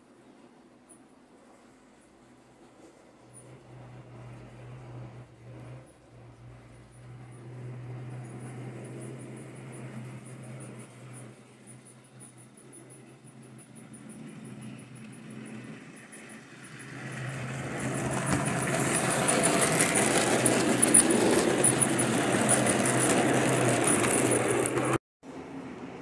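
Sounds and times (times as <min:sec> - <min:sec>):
model train running on track: 0:00.0 - 0:26.0.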